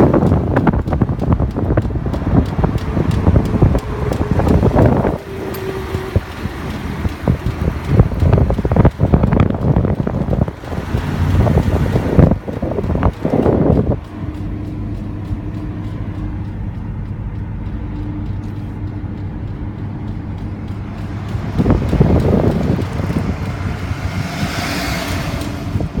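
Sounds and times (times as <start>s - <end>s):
repeating wheel bearing tick: 0.0s - 26.0s
rush of wind noise: 0.0s - 26.0s
steady low hum: 0.0s - 26.0s.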